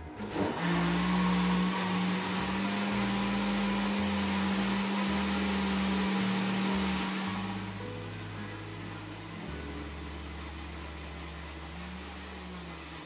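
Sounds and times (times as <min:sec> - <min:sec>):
blender running: 0:00.0 - 0:13.0.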